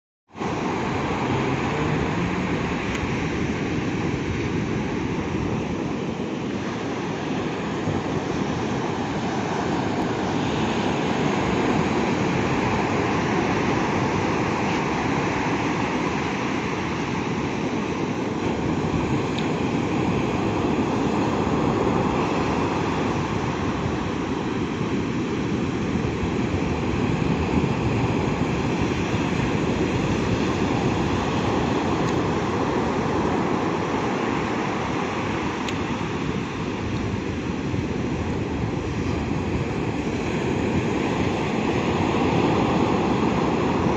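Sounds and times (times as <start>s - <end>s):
waves breaking on a beach: 0.3s - 43.9s.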